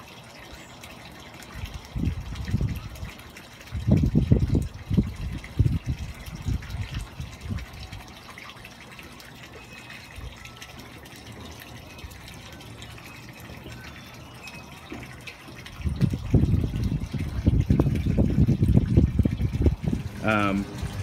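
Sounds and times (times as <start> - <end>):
water drip ticks: 0.0 - 21.0
water trickling: 0.0 - 21.0.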